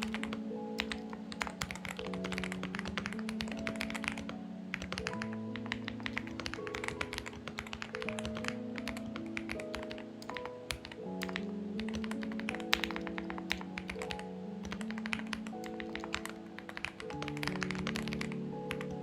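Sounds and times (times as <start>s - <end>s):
slow background music: 0.0s - 19.0s.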